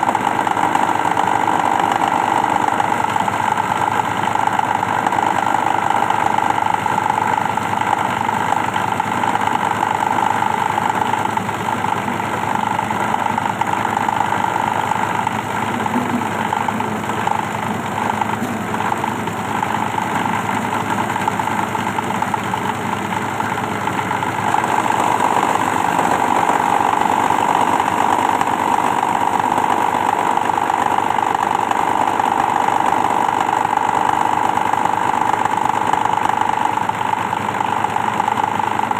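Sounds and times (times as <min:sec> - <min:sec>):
shredding machine humming: 0:00.0 - 0:38.9.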